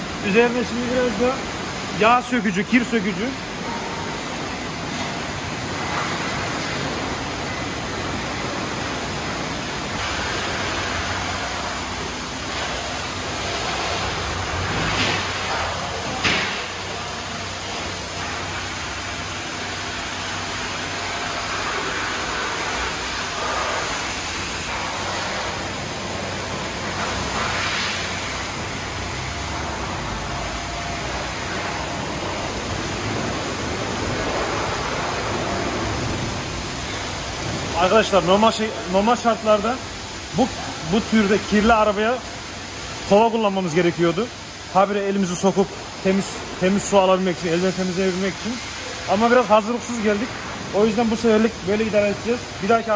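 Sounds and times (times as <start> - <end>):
echoing car wash rushing noise: 0.0 - 52.9.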